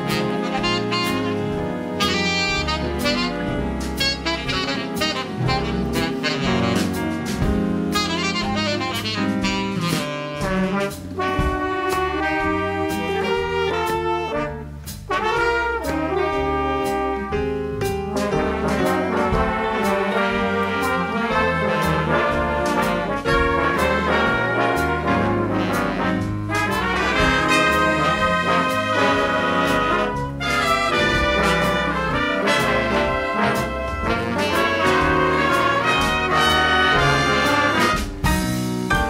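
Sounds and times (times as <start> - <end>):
big band swing music: 0.0 - 39.0
drums and cymbals beat: 0.0 - 39.0
trumpet and trombone sections: 0.0 - 39.0.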